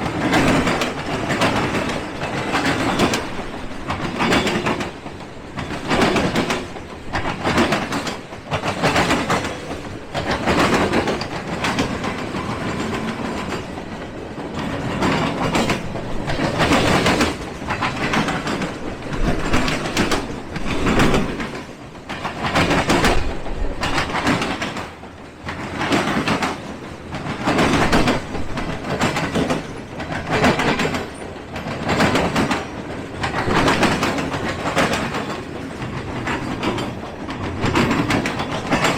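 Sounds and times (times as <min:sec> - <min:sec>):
train rumbling past: 0:00.0 - 0:38.9
train wheels clacking on rails: 0:00.0 - 0:38.9.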